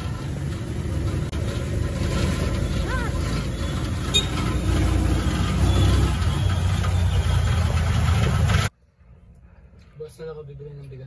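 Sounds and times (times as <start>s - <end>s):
motorcycle engine rumble: 0.0s - 9.9s
road noise: 0.0s - 11.0s.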